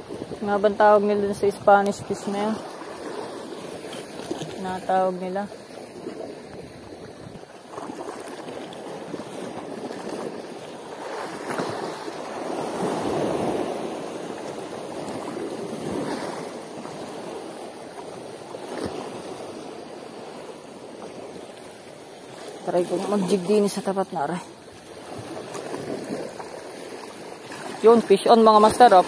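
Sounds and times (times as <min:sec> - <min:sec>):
sea water washing on shore: 0:00.0 - 0:29.0.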